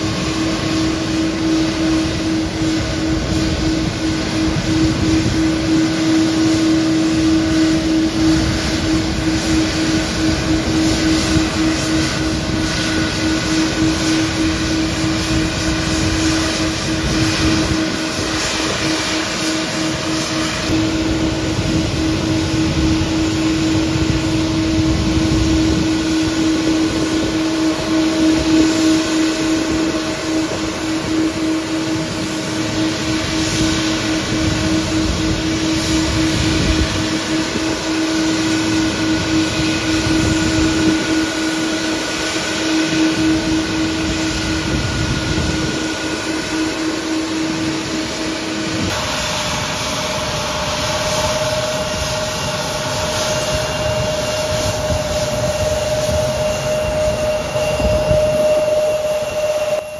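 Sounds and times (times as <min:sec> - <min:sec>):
jet engines humming: 0:00.0 - 0:59.9
taxiing jet high tone: 0:00.0 - 0:59.9.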